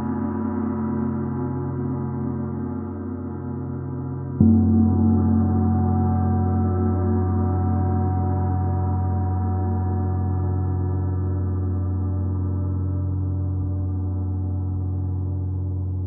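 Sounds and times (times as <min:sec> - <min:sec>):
gong resonating: 0:00.0 - 0:13.2.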